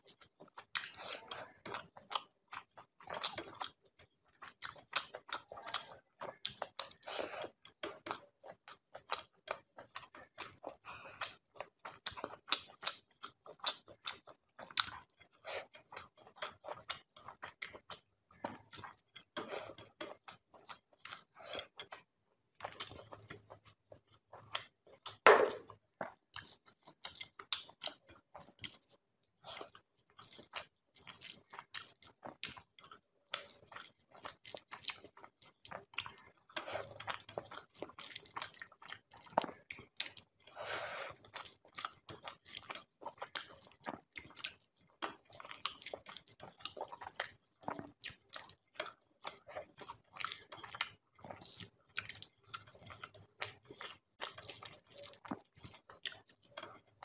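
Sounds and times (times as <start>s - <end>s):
chewing smacks and clicks: 0.0s - 57.0s.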